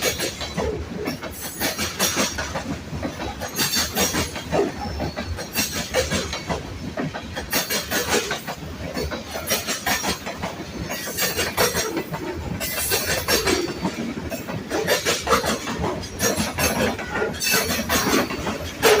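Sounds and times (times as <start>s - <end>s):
train rumble: 0.0s - 19.0s
train wheels clacking: 0.0s - 19.0s.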